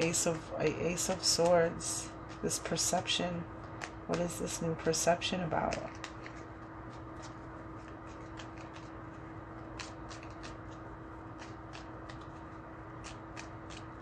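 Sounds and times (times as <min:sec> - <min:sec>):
cards being shuffled: 0:00.0 - 0:14.0
steady low hum: 0:00.0 - 0:14.0.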